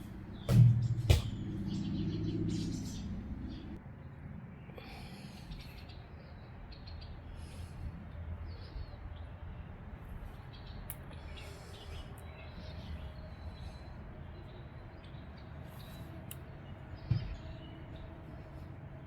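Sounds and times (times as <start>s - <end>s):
low steady outdoor rumble: 0.0s - 19.0s
songbirds chirping: 0.0s - 19.0s.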